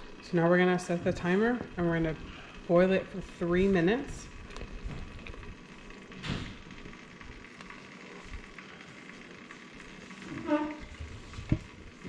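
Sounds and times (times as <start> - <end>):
jelly bubbling in a pot: 0.0 - 12.0.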